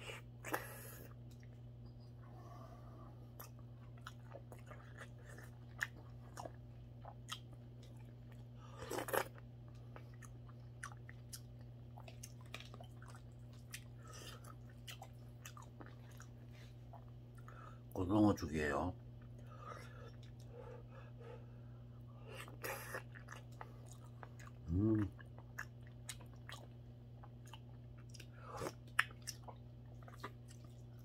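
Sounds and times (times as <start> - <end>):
soft chewing: 0.0 - 18.0, 19.0 - 31.0
steady low hum: 0.0 - 31.0.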